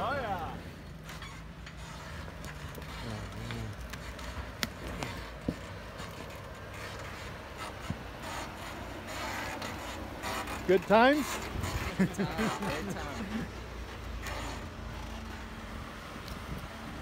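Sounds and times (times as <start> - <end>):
engine running low: 0.0 - 17.0.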